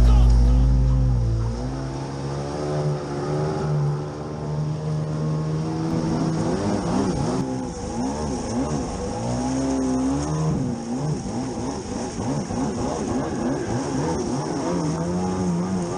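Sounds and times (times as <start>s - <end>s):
jet ski engines revving: 0.0s - 15.9s.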